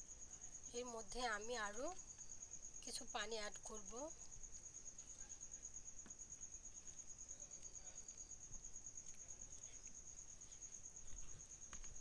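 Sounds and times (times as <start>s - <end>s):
cricket trilling: 0.0s - 12.0s.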